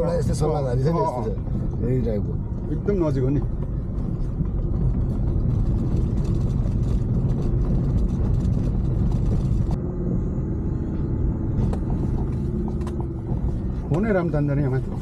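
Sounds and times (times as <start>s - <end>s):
car engine hum: 0.0s - 15.0s
road rumble: 0.0s - 15.0s.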